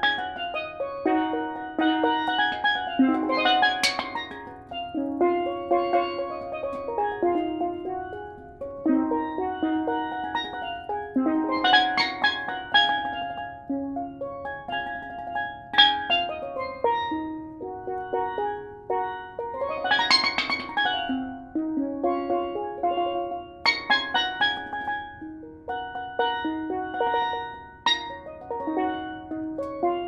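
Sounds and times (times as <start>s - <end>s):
steel pan melody: 0.0s - 30.0s.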